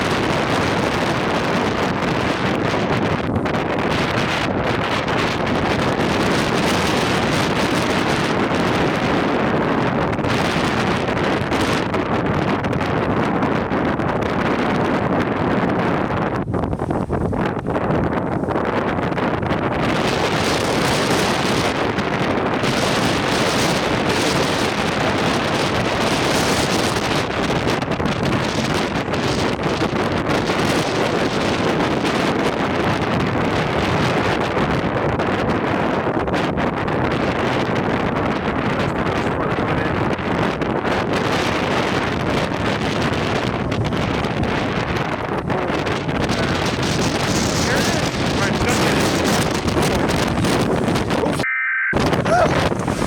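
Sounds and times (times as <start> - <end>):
strong wind buffeting microphone: 0.0 - 53.0.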